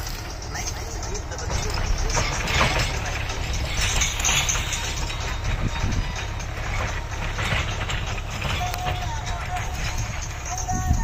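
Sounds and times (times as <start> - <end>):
tractor engine rumble: 0.0 - 11.0.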